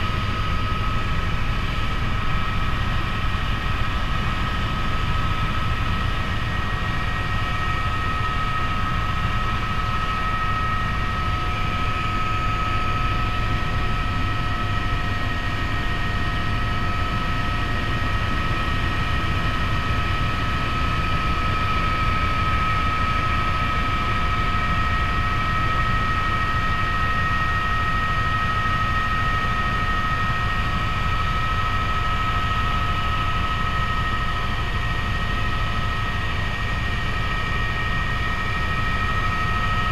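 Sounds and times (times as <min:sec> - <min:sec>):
helicopter rotor and engine rumble: 0:00.0 - 0:39.9.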